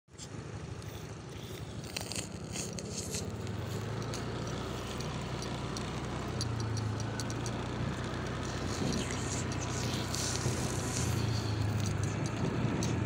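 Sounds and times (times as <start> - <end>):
vehicle engine and road noise: 0.1 - 13.0
light clicks: 1.9 - 13.0.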